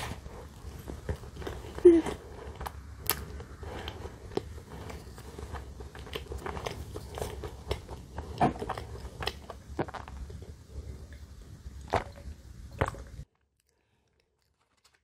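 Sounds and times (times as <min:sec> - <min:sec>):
chewing bread: 0:00.0 - 0:15.0.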